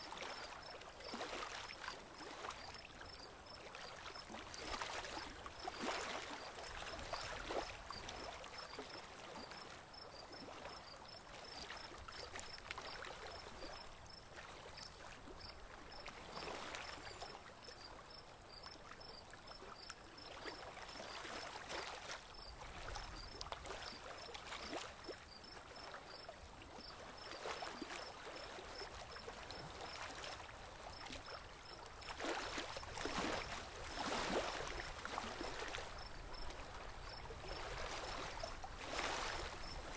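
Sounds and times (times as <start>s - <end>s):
water lapping against boat hull: 0.0s - 39.9s.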